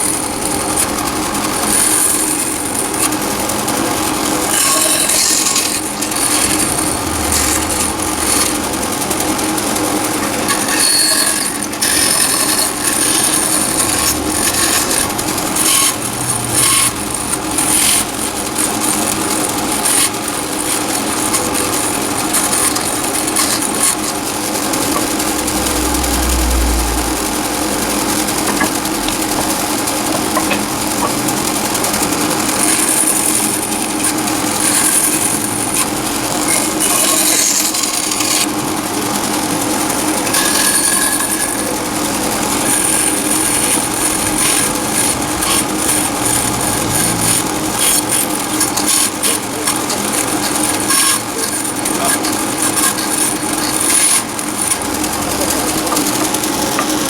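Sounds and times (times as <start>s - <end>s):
tool scraping spinning wood: 0.0s - 57.0s
wood lathe running: 0.0s - 57.0s.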